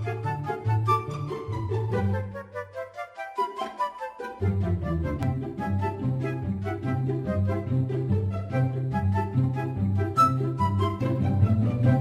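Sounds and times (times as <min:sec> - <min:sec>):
light bouncy background music: 0:00.0 - 0:12.0.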